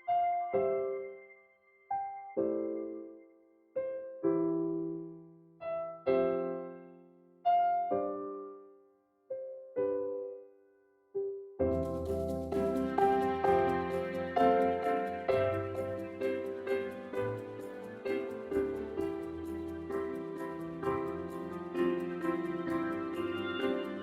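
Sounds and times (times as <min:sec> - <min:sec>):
slow gentle piano: 0:00.0 - 0:24.0.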